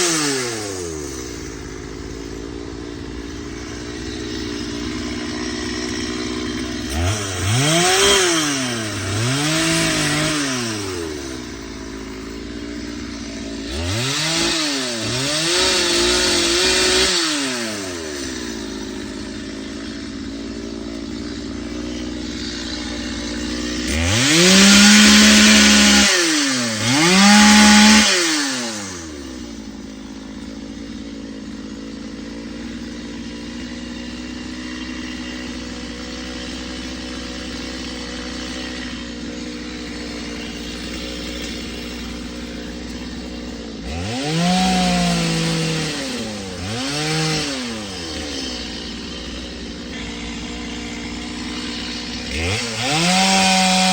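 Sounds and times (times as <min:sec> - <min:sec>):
chainsaw idling and revving: 0:00.0 - 0:53.9.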